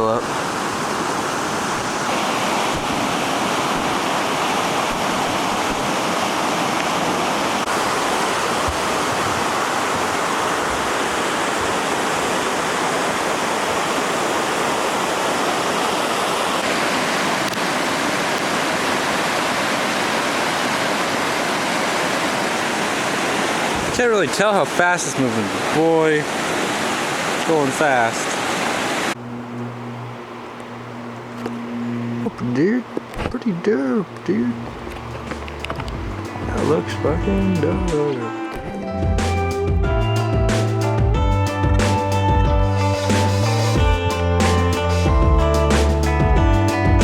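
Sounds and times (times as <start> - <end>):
flooded creek rushing: 0.0 - 39.8.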